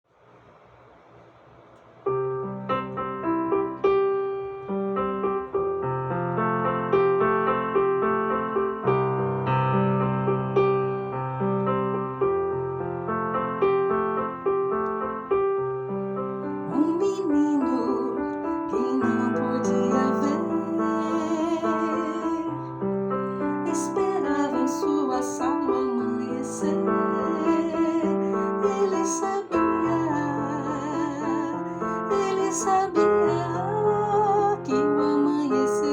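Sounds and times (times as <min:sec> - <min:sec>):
slow piano-like keyboard music: 0:02.0 - 0:35.9.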